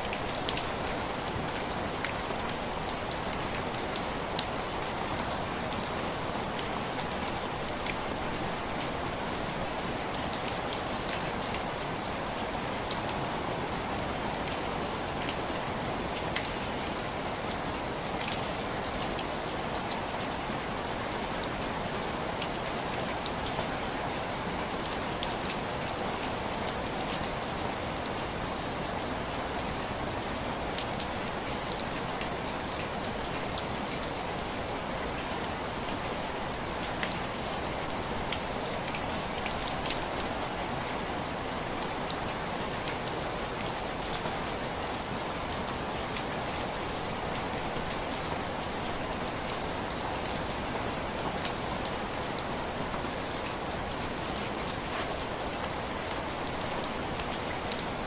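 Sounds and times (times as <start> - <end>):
rain pattering on window glass: 0.1 - 58.0.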